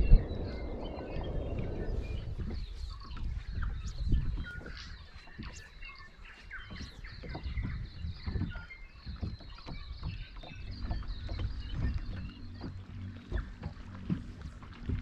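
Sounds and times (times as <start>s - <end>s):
birds chirping and whistling: 0.0s - 15.0s
low rumble of lake water: 0.0s - 15.0s.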